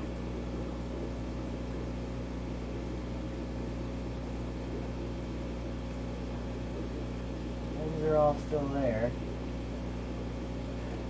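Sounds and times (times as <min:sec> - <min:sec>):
aquarium filter and air pump: 0:00.0 - 0:11.0.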